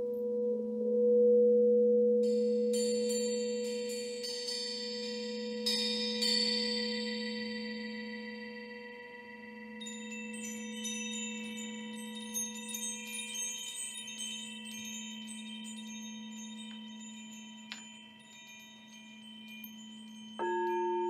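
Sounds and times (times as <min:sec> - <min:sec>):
crystal singing bowl ringing: 0:02.4 - 0:21.0
metal chimes tinkling: 0:02.7 - 0:21.0.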